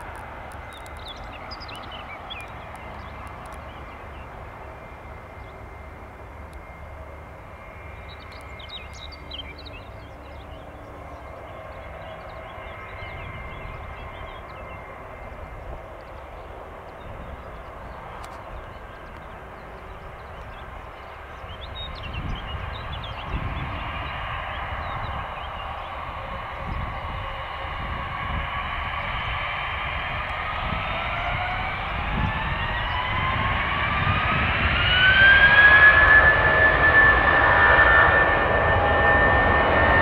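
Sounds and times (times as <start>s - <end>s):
jet engines rumbling with whine: 0.0s - 40.0s.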